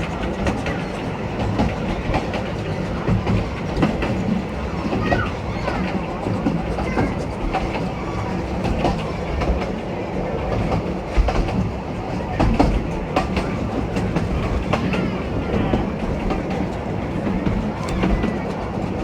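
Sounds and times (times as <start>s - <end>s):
train rumbling: 0.0s - 19.0s
wheels clicking over rail joints: 0.0s - 19.0s.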